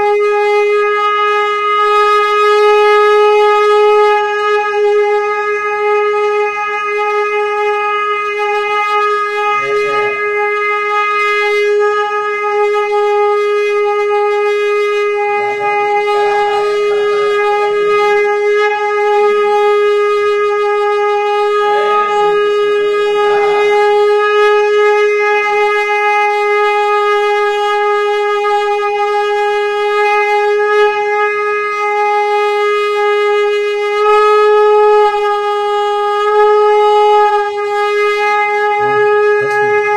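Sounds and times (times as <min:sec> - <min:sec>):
conch shell blown: 0:00.0 - 0:39.9.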